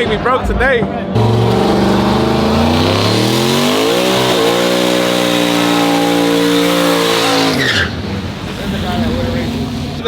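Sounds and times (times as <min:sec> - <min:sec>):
truck engine at full throttle: 0:01.2 - 0:10.0.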